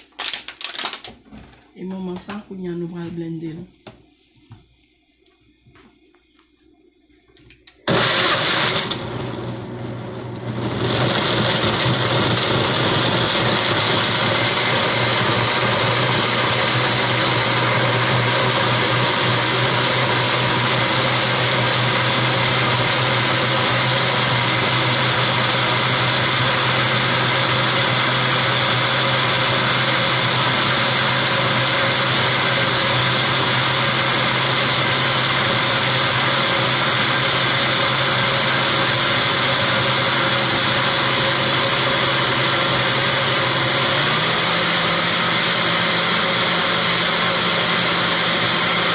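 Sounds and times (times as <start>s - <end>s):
electric blender running: 7.9s - 48.9s.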